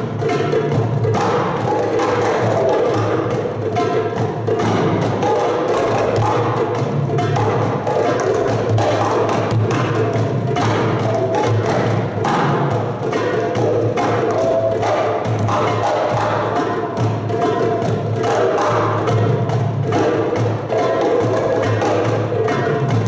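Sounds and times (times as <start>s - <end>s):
hand drum strokes: 0.0s - 23.0s.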